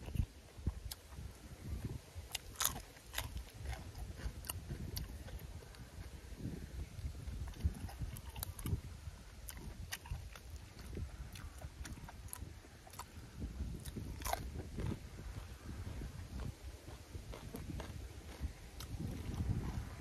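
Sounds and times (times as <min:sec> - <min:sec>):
man crunching raw vegetable: 0:00.0 - 0:20.0.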